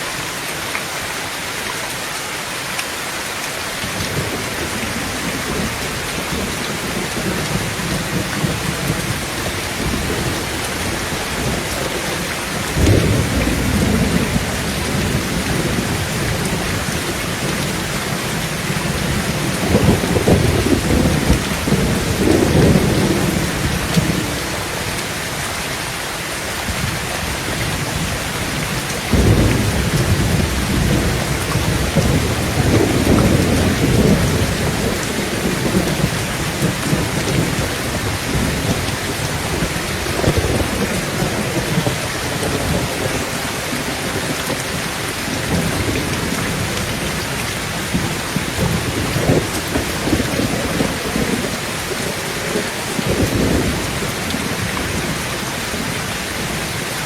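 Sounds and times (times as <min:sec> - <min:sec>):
heavy rain on a tin roof: 0:00.0 - 0:57.0
thunder rumbling: 0:04.0 - 0:25.5, 0:26.6 - 0:56.8.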